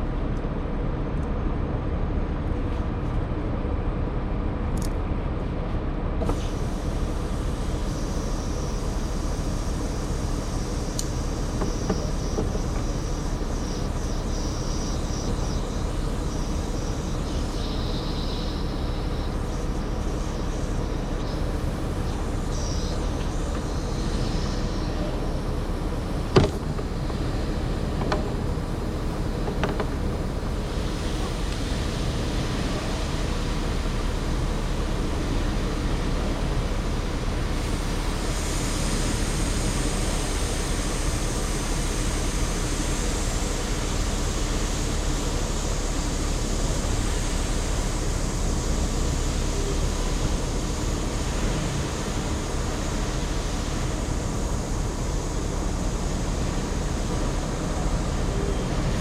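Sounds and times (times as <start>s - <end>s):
steady low rumble: 0.0s - 59.0s
refrigerant gas hissing: 6.2s - 59.0s.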